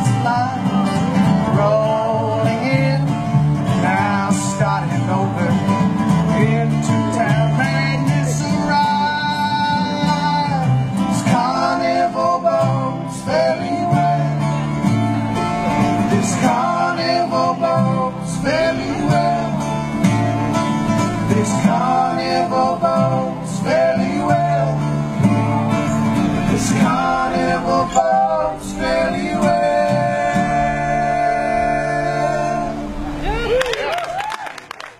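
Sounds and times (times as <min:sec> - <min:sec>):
plucked upright bass: 0:00.0 - 0:33.3
acoustic guitars strummed and picked: 0:00.0 - 0:33.6.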